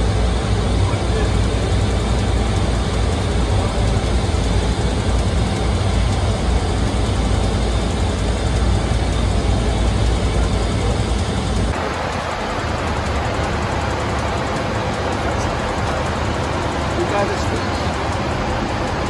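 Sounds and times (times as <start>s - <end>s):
jet airliner cockpit rumble: 0.0s - 19.0s.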